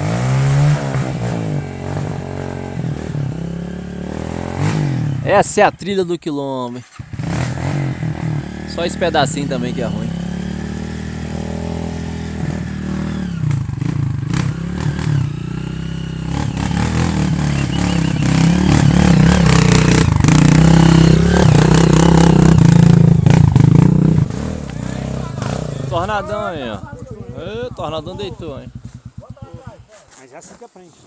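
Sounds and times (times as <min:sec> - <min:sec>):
motorcycle engine working hard: 0:00.0 - 0:05.4, 0:06.8 - 0:30.0.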